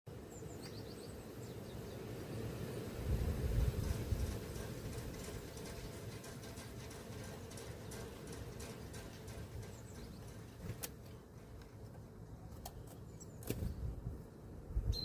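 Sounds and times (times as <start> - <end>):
birds pecking and hopping: 0.5 - 14.0.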